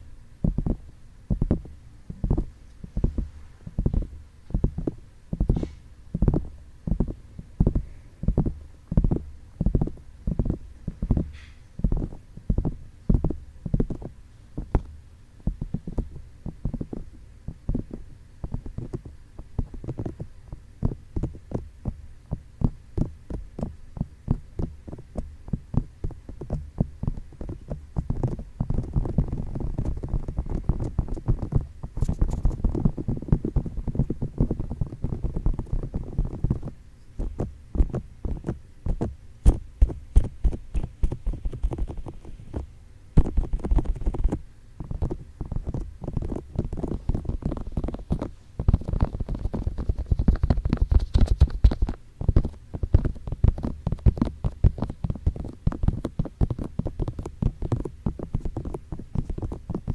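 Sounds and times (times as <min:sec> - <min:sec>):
fingertips tapping microphone: 0:00.0 - 0:59.9
muffled rubbing on microphone: 0:00.5 - 0:21.7, 0:22.6 - 0:59.9.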